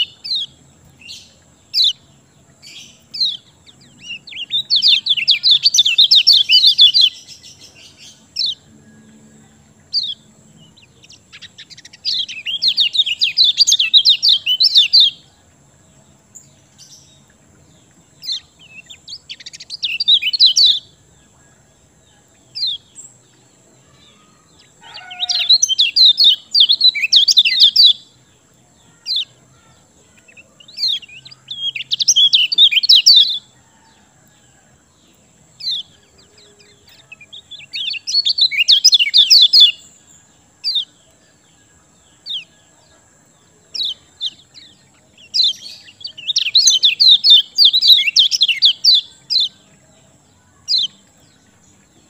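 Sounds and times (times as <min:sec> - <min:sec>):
songbird rapid chattering song: 0:00.0 - 0:52.0.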